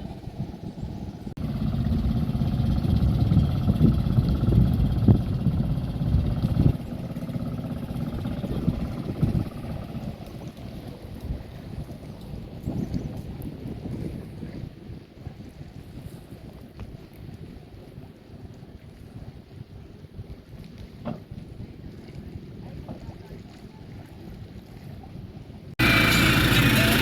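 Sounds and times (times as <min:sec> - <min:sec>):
boat engine rumbling: 0:00.0 - 0:16.5, 0:21.0 - 0:27.0
wind buffeting microphone: 0:00.0 - 0:27.0.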